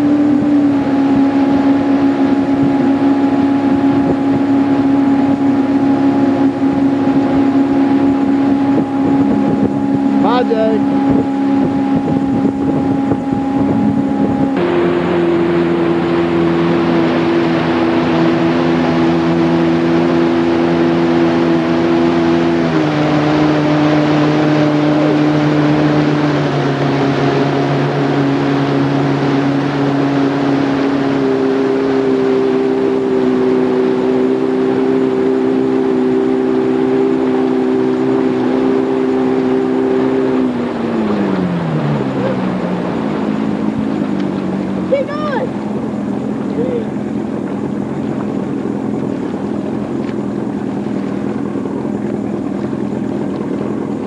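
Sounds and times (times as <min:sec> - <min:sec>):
motorboat engine running: 0:00.0 - 0:54.0
wake water rushing: 0:00.0 - 0:54.0
wind: 0:00.0 - 0:54.0.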